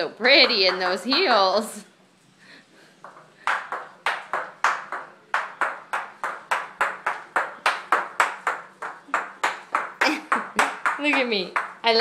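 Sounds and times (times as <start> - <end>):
high heels clacking on tile: 0.2 - 1.6, 3.0 - 12.0.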